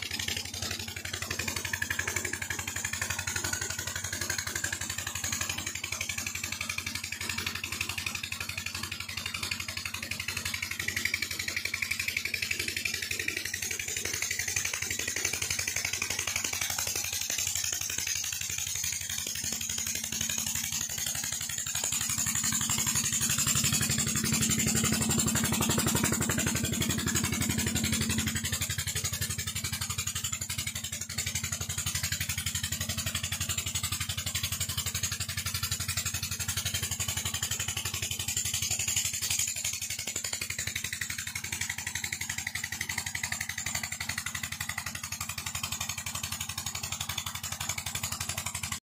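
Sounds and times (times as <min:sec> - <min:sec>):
diesel engine chugging: 0:00.0 - 0:48.8.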